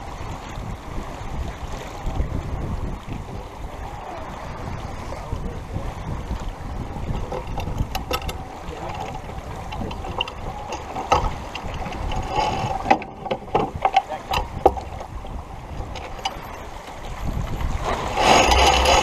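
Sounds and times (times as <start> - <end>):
water rushing: 0.0 - 19.0
wind: 0.0 - 19.0.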